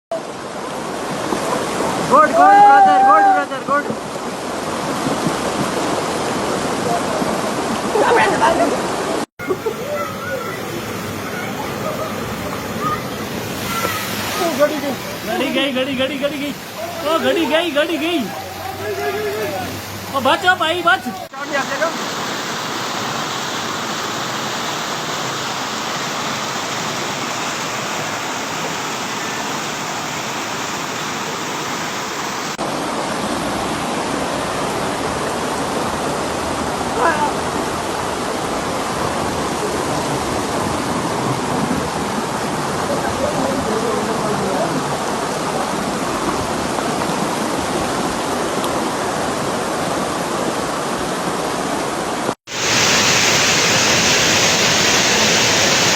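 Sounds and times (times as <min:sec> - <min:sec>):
floodwater rushing: 0:00.1 - 0:55.9.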